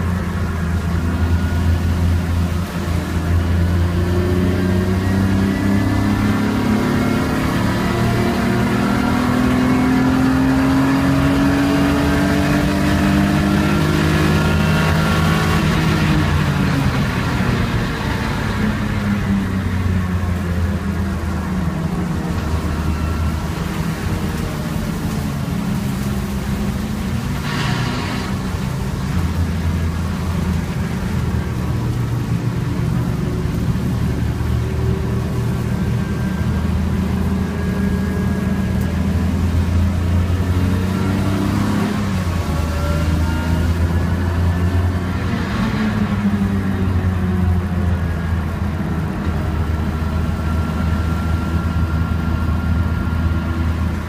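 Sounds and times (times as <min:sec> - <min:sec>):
car engine from inside cabin: 0:00.0 - 0:54.0.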